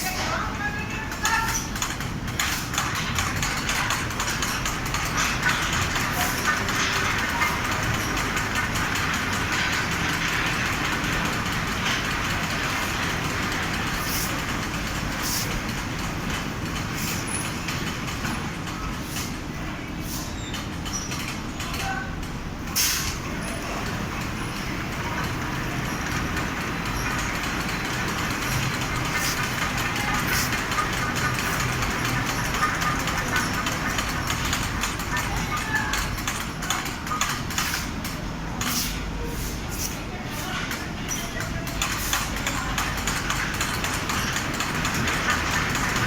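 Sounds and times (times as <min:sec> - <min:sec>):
machine running: 0:01.1 - 0:19.0, 0:23.2 - 0:38.7, 0:41.6 - 0:46.0.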